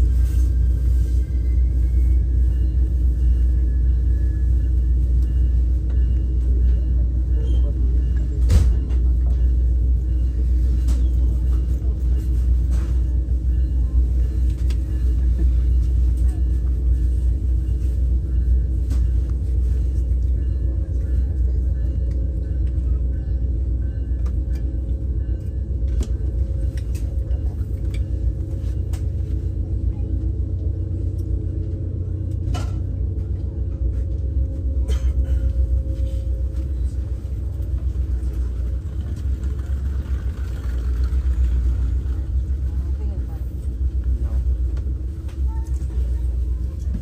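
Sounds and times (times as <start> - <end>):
moving vehicle rumble: 0.0 - 47.0.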